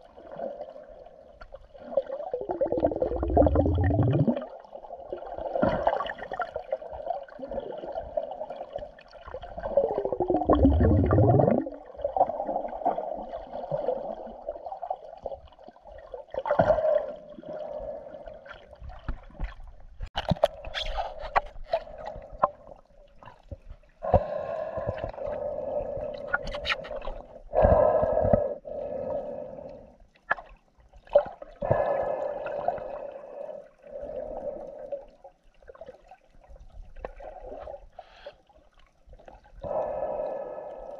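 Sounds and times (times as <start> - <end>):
gurgling underwater water: 0.0 - 40.9.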